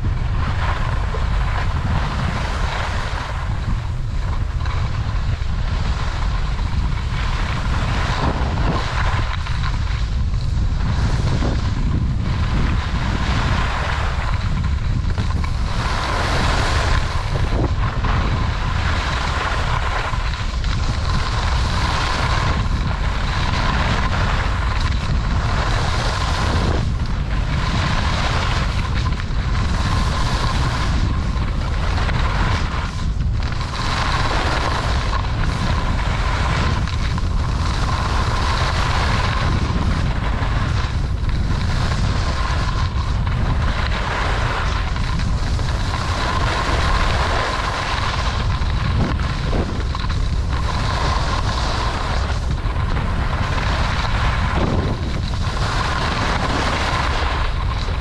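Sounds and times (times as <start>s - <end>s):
wind rumbling on microphone: 0.0s - 58.0s
skis hissing on snow: 0.4s - 4.2s, 4.8s - 58.0s.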